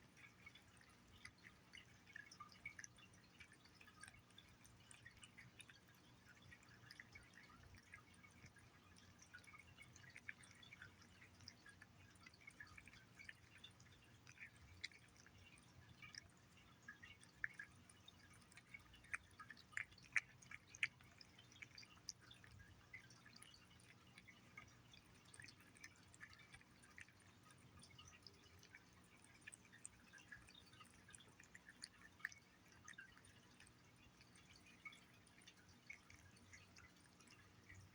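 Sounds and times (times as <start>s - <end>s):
cat licking and chewing: 0.0s - 37.9s.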